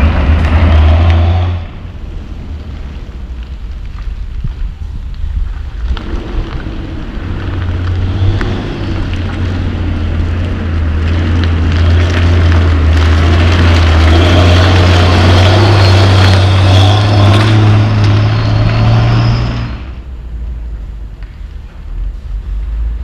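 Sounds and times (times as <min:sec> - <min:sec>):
truck diesel engine approaching: 0:00.0 - 0:23.0.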